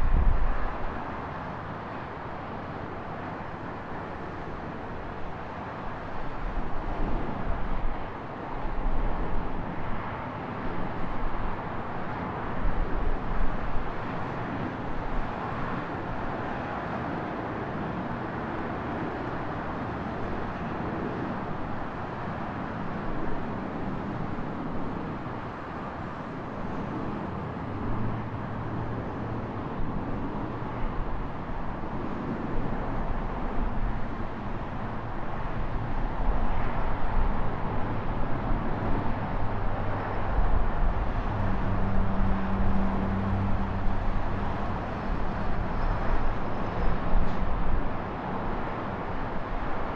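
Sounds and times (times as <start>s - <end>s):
city traffic: 0.0s - 49.9s
wind rumbling on microphone: 0.0s - 49.9s.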